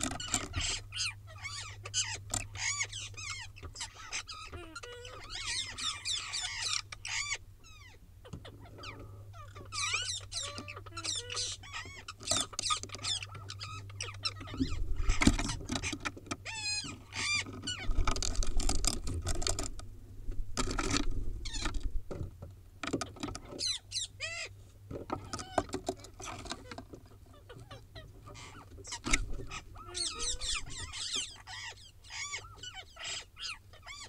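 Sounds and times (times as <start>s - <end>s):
parakeets screeching: 0.0s - 19.7s, 20.7s - 21.9s, 23.0s - 34.0s.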